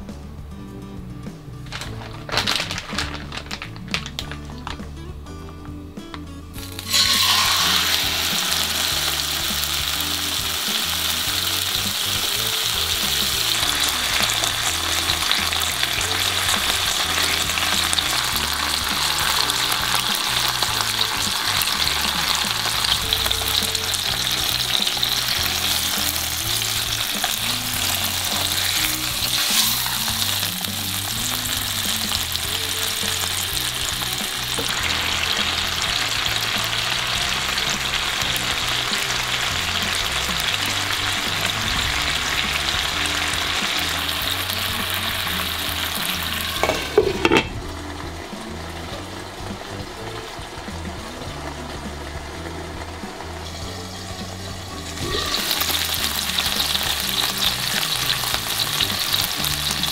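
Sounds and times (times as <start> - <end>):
chicken sizzling in a frying pan: 1.8 - 4.9, 6.5 - 59.9.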